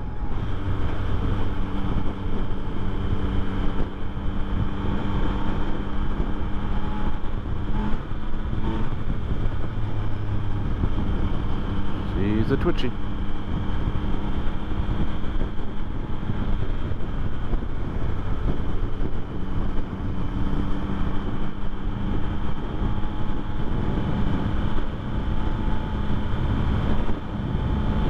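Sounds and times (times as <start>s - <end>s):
motorcycle engine cruising: 0.0s - 28.0s
wind noise on microphone: 0.0s - 28.0s.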